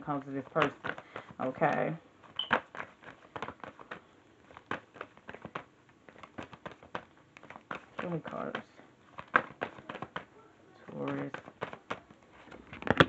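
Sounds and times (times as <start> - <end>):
cards being shuffled: 0.1 - 13.0.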